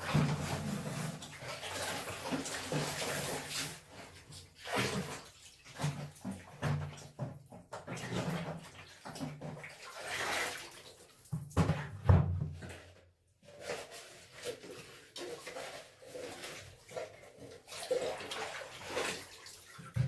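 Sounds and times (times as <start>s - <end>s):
clothes sloshing in water: 0.0s - 20.0s.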